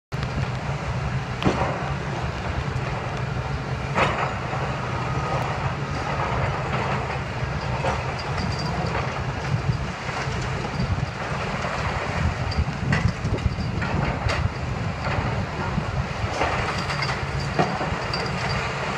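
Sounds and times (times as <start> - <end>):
excavator diesel engine running: 0.2 - 18.9.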